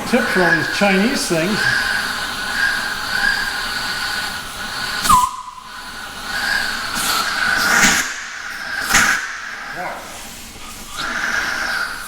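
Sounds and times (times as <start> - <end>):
cutting torch flame hissing: 0.0 - 12.0.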